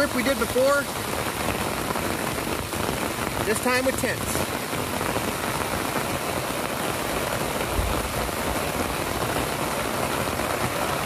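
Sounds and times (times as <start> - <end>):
heavy rain on a tarp: 0.0 - 11.0.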